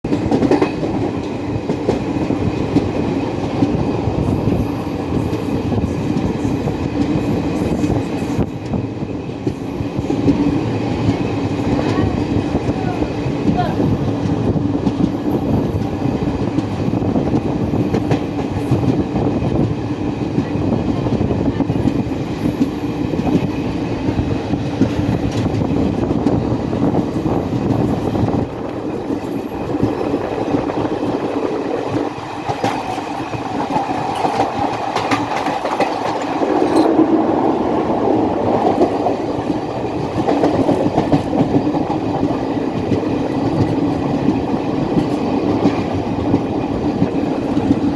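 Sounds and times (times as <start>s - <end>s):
train wheels clattering on rails: 0.0s - 47.9s.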